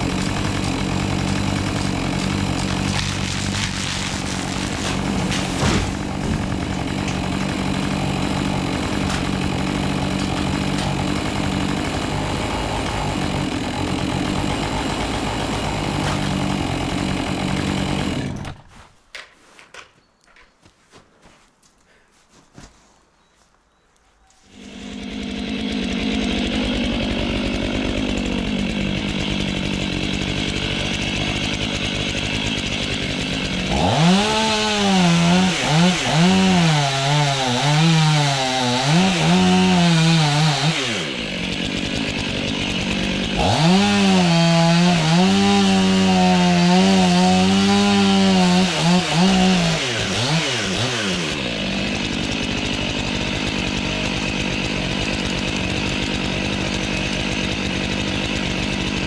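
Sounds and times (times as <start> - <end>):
chainsaw idling and cutting wood: 0.0 - 18.8, 24.2 - 59.0.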